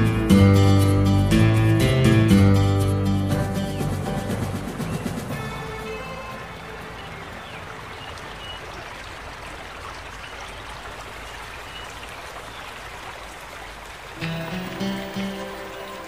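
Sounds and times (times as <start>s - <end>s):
rushing outdoor ambience: 0.0s - 16.0s.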